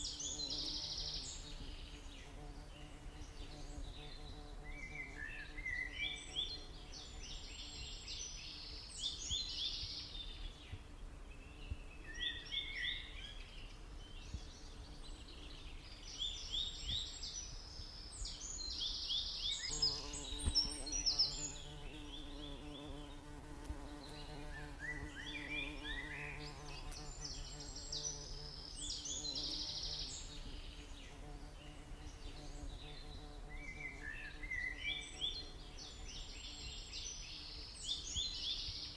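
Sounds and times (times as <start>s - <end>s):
low buzz of bees: 0.0s - 38.9s.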